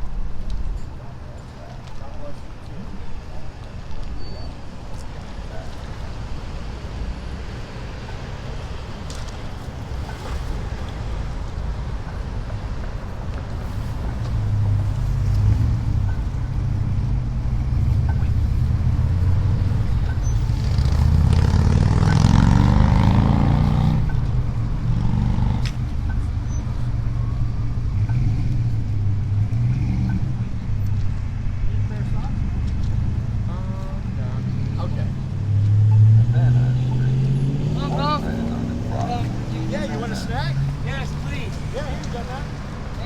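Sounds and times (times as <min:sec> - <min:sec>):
road noise: 0:00.0 - 0:43.0
vehicle engine rumble: 0:00.0 - 0:43.0.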